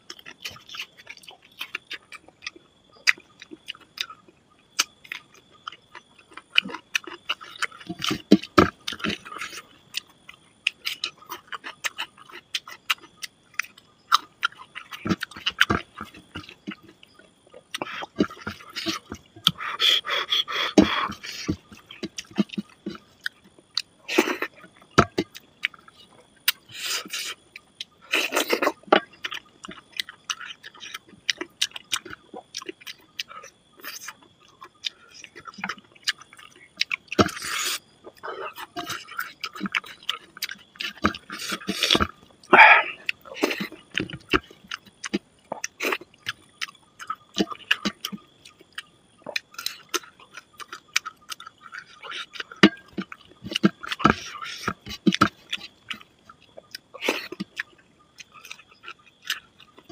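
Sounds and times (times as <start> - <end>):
man chewing and lip smacking: 0.0 - 59.9.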